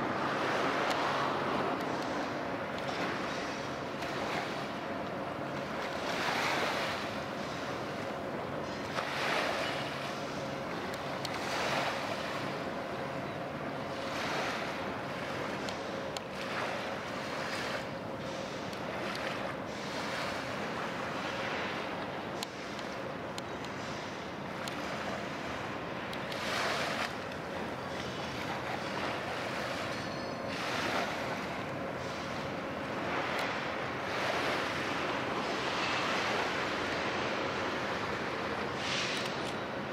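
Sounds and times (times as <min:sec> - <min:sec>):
faint constant tone: 0:00.0 - 0:39.9
low hum of ship machinery: 0:00.0 - 0:39.9
small waves lapping: 0:00.0 - 0:39.9.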